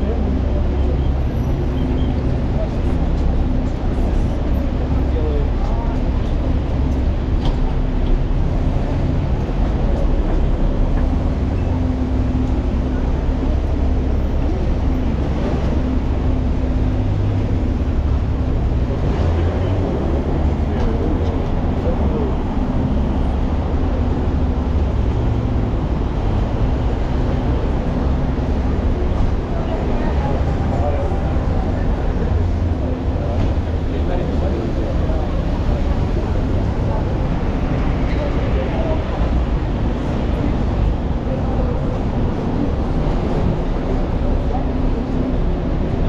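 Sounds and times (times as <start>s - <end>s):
faint engine hum: 0.0s - 46.0s
low rumble of vehicles: 0.0s - 46.0s.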